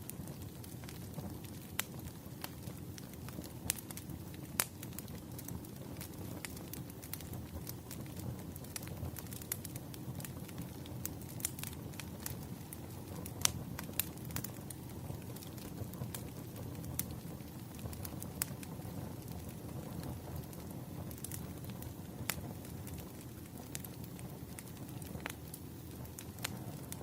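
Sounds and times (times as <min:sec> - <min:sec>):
campfire crackling: 0:00.0 - 0:27.0
sharp pops and snaps of fire: 0:00.0 - 0:27.0.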